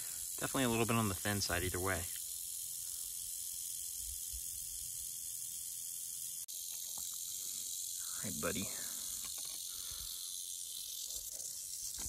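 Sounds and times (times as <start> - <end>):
rattlesnake rattling: 0.0 - 12.0.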